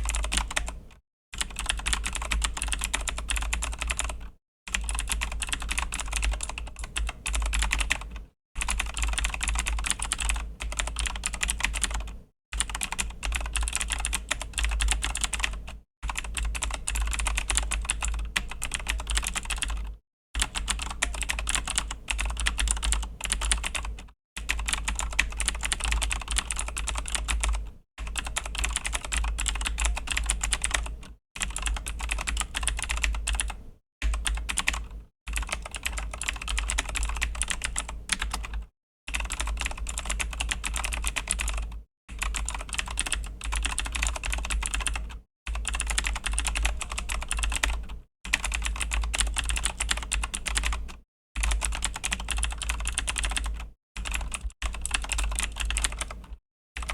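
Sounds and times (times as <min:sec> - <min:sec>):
mechanical keyboard typing: 0:00.0 - 0:00.8, 0:01.4 - 0:56.9.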